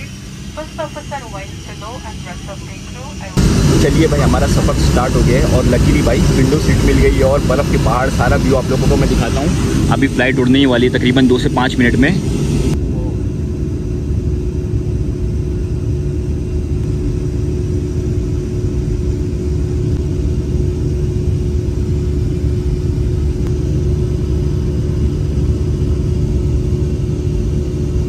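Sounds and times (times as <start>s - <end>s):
jet engine rumble in cabin: 0.0s - 28.0s.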